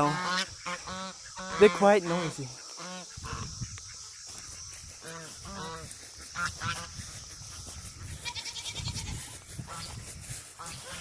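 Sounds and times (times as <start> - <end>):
farm animals calling: 0.0 - 11.0.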